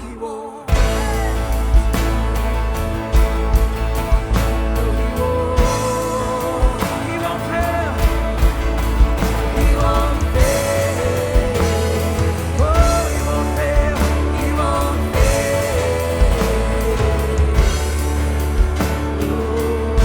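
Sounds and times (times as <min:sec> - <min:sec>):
sliding melodic lead line: 0:00.7 - 0:20.0
worship band playing: 0:00.7 - 0:20.0.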